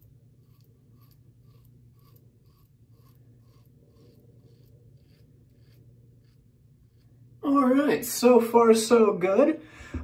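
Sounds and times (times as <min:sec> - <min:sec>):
razor scraping stubble: 0:00.0 - 0:08.2
low steady hum: 0:00.0 - 0:10.0.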